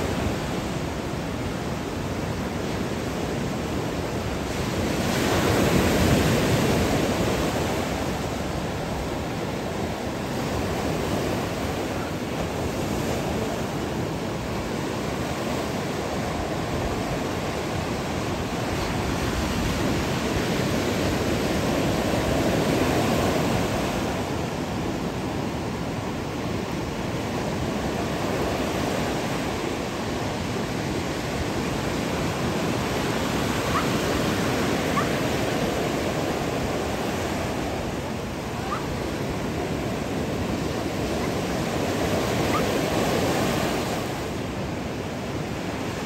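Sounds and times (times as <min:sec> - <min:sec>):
ocean waves breaking on beach: 0:00.0 - 0:46.0.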